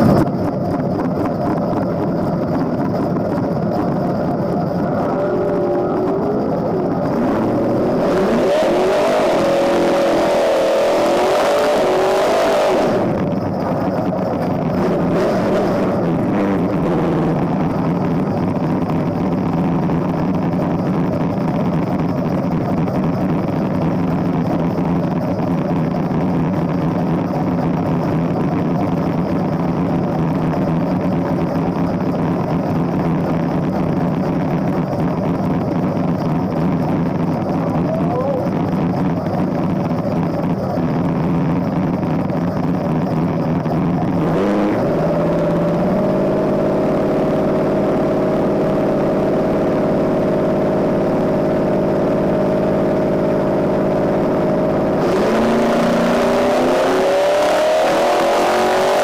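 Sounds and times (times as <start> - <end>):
engine revving inside car: 2.5 - 59.0.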